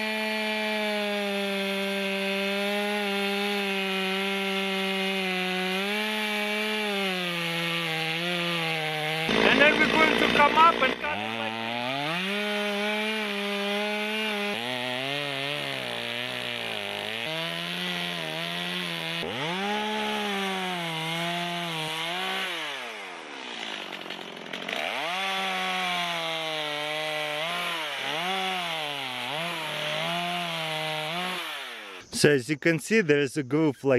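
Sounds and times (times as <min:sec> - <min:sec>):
chainsaw cutting wood: 0:00.0 - 0:32.2.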